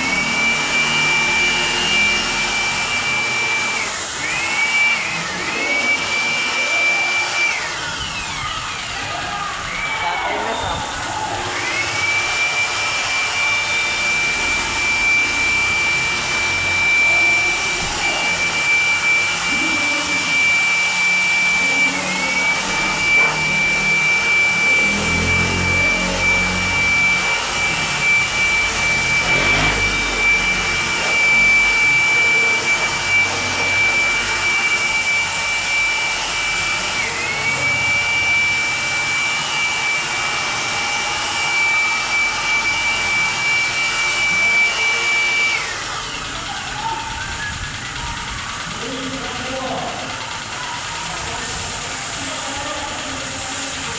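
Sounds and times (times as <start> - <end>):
pressure washer motor whine: 0.0 - 53.9.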